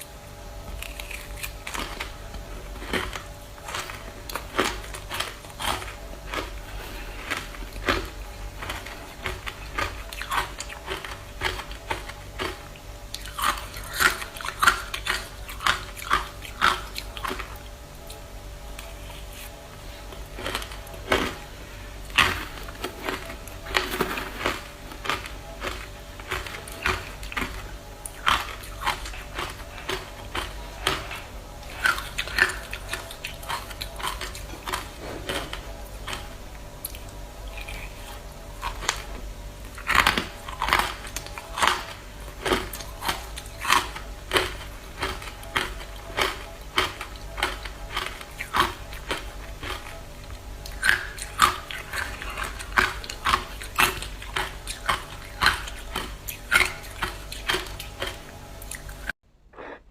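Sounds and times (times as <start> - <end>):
ice being chewed: 0.6 - 18.2, 18.8 - 59.8.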